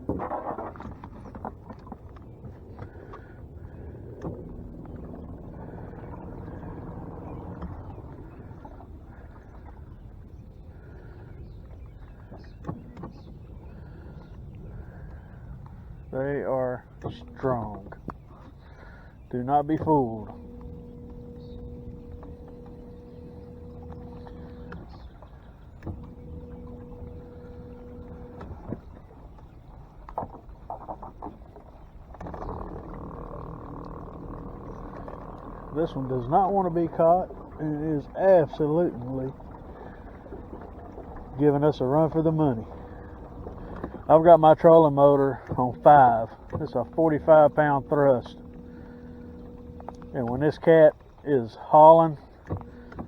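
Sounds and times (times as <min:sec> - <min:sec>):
knocks and clatters on boat: 0:00.0 - 0:53.0
electric motor humming: 0:02.8 - 0:10.0, 0:16.8 - 0:30.4, 0:31.0 - 0:53.0.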